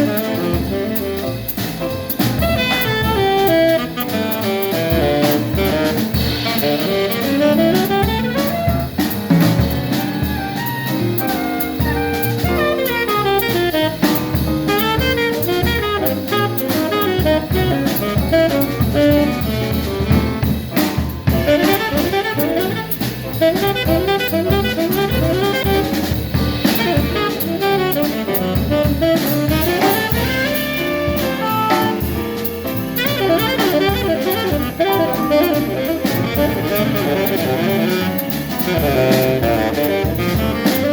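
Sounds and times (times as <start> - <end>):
drum kit with cymbals: 0.0 - 40.9
saxophone playing quick runs: 2.4 - 40.9.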